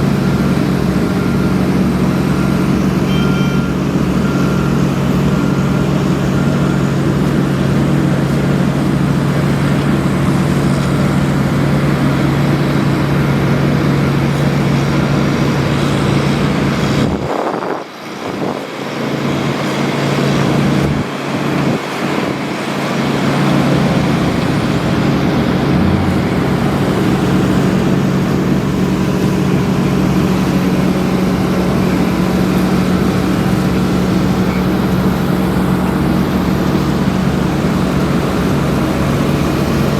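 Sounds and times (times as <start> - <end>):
construction machinery engine humming: 0.0 - 39.9.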